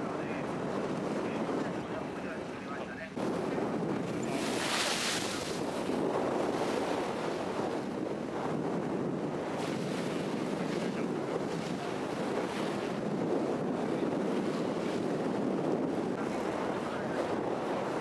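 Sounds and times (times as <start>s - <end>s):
sea waves: 0.0s - 18.0s
wind buffeting microphone: 0.0s - 18.0s.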